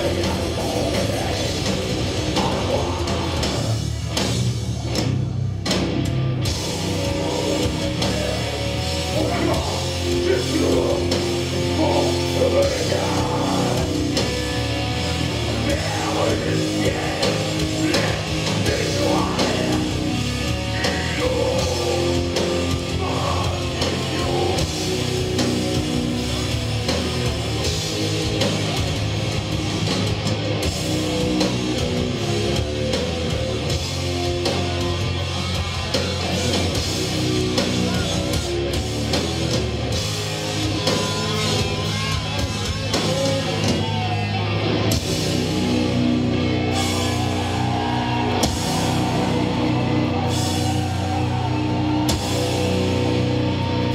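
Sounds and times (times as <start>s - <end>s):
distorted electric guitars: 0.0s - 53.9s
drum kit: 0.0s - 53.9s.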